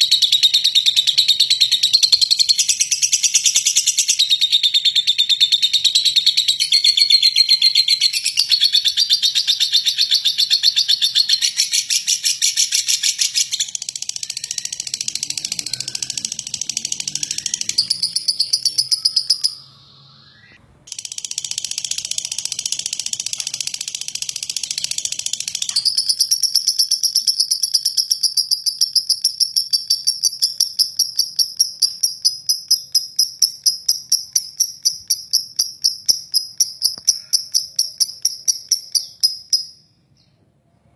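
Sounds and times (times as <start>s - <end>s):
lovebird chattering trill: 0.0s - 39.8s.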